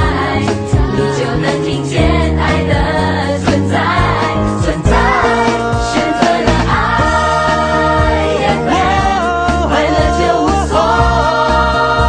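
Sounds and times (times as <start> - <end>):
radio theme music: 0.0 - 12.0.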